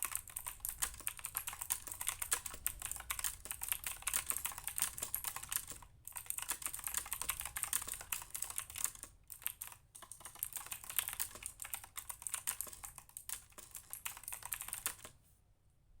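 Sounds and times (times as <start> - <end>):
mechanical keyboard typing: 0.0 - 15.2.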